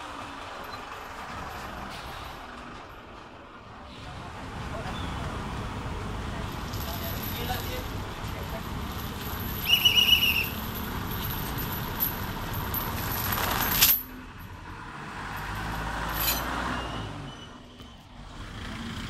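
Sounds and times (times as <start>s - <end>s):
heavy road vehicle rush: 0.0s - 19.0s.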